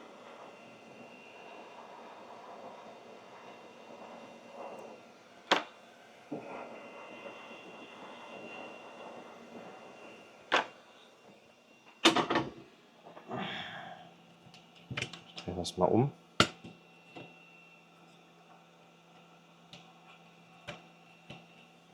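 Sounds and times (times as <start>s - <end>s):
hot-air station blowing: 0.0s - 21.9s.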